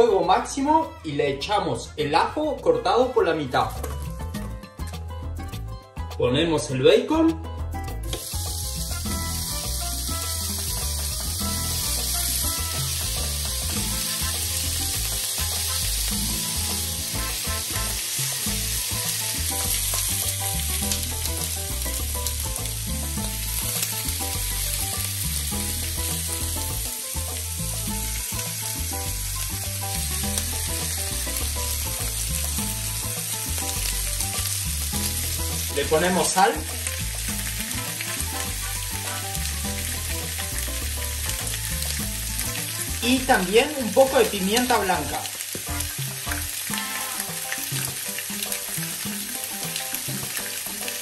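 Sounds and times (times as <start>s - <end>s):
background music: 0.0s - 51.0s
bacon sizzling in grill pan: 8.1s - 51.0s.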